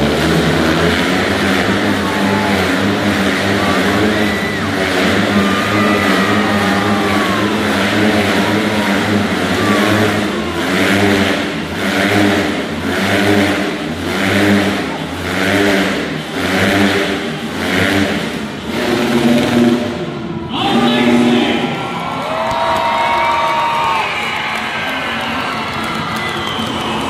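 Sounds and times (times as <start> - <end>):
motorcycle engines looping: 0.0 - 21.9.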